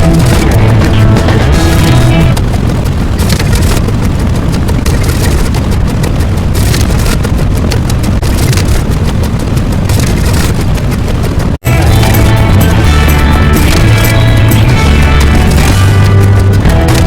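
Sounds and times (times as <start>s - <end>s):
distorted rumbling with crackling: 0.0s - 17.0s.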